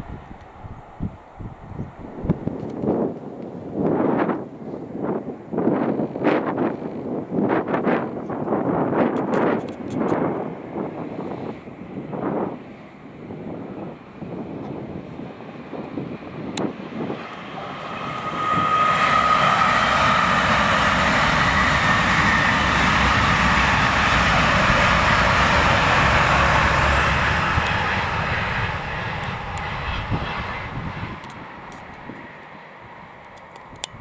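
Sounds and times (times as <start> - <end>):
train wheels rumbling on rail: 0.0 - 4.4, 5.0 - 34.0
high whine of train: 0.0 - 34.0.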